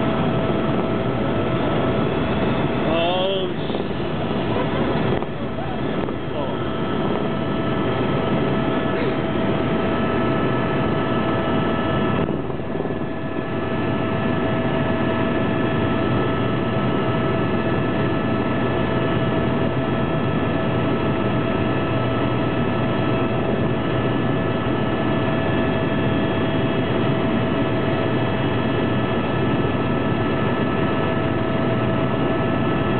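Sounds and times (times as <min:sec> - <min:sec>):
helicopter engine and rotor drone: 0:00.0 - 0:32.9.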